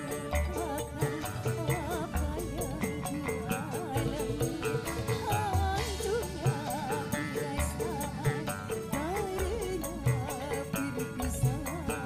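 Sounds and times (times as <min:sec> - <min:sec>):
song with wavering melody: 0:00.0 - 0:12.0.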